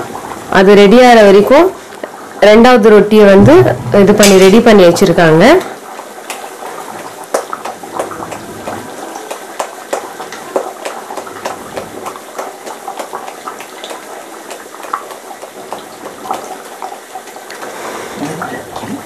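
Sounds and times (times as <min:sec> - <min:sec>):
oil bubbling and crackling: 0:00.0 - 0:19.0.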